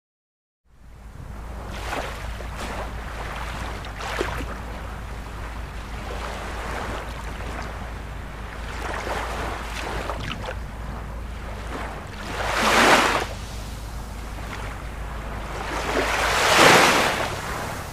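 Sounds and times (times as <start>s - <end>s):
steady low surf rumble: 0.7s - 17.9s
waves breaking and washing in: 0.8s - 17.9s.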